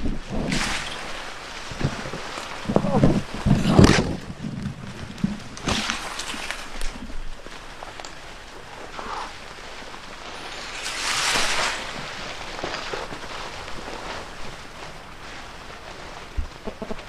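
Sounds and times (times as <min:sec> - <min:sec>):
footsteps on rough trail: 0:00.0 - 0:17.0
rustling: 0:00.0 - 0:17.0.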